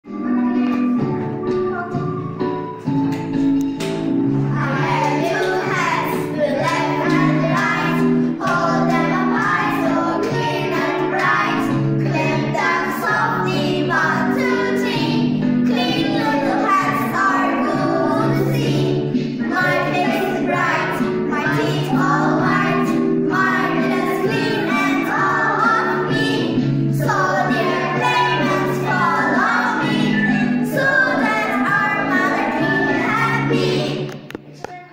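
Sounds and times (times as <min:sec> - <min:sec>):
girls singing together: 0:04.5 - 0:34.9.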